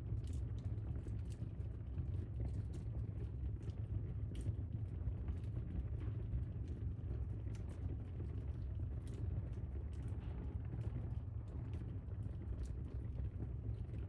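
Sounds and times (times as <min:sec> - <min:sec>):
fire flames rumbling: 0:00.0 - 0:14.0.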